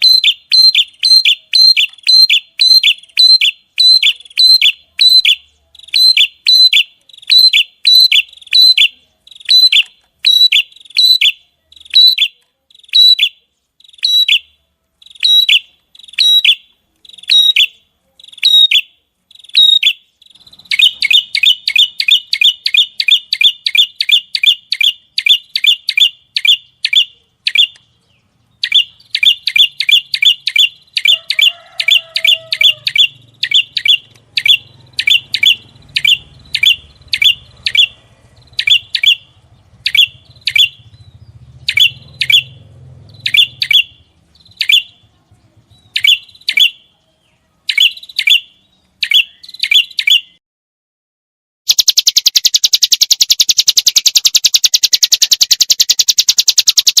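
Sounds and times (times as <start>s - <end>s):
songbird sharp high chirps: 0.0s - 50.4s, 51.7s - 57.0s.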